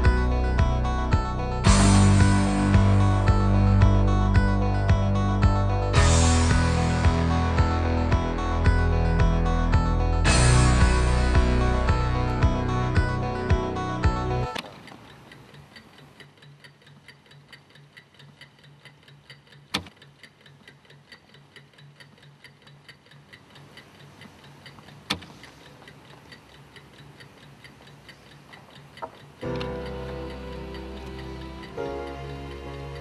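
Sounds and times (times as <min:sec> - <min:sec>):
chess clock clacks: 0:00.0 - 0:33.0
chess clock ticking: 0:00.0 - 0:33.0.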